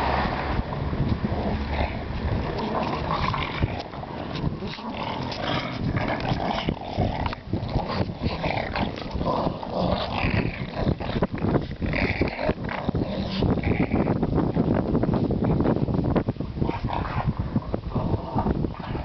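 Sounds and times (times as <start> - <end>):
dogs growling: 0.3 - 14.2, 16.5 - 19.0.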